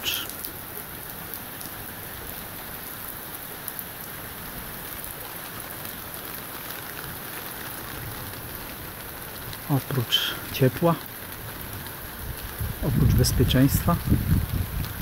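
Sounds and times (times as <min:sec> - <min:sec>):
heavy rain on garden: 0:00.0 - 0:15.0.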